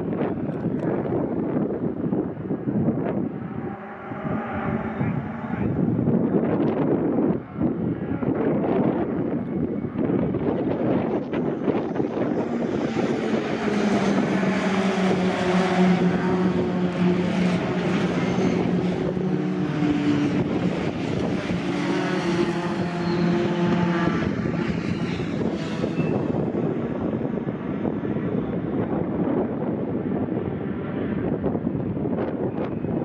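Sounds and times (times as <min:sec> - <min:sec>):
racing truck engines passing: 0:00.7 - 0:33.0.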